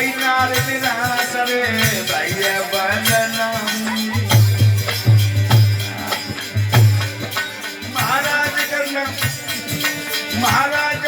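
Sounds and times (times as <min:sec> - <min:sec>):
drum beating with bass strokes: 0:00.0 - 0:11.0
jingling percussion: 0:00.0 - 0:11.0.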